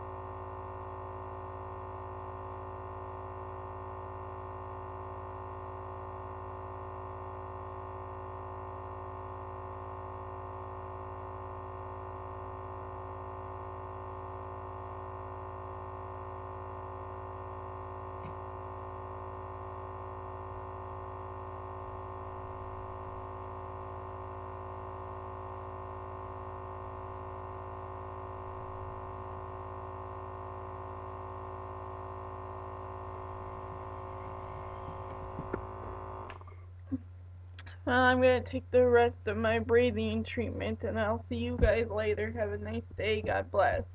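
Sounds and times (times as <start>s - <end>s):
air compressor humming: 0.0s - 38.0s.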